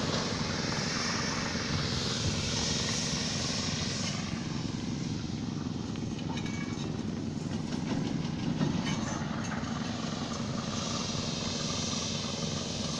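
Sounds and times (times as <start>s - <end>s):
heavy machinery engine running: 0.0s - 12.9s.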